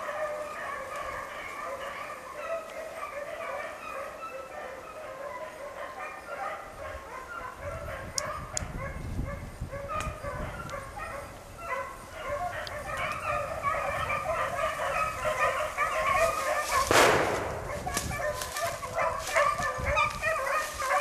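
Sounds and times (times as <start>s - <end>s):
pack of hounds baying: 0.0s - 21.0s.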